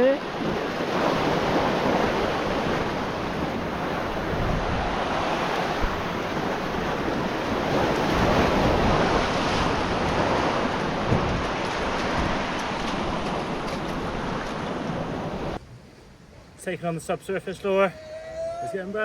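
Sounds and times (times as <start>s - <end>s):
surf washing against rocks: 0.0s - 15.6s
wind buffeting microphone: 0.0s - 15.9s.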